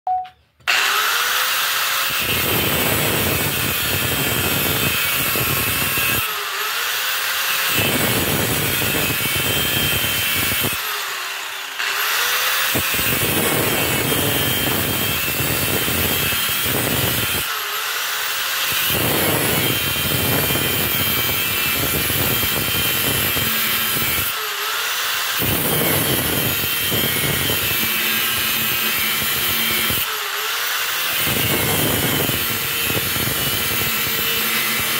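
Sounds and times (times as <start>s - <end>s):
angle grinder cutting steel: 0.6s - 34.9s.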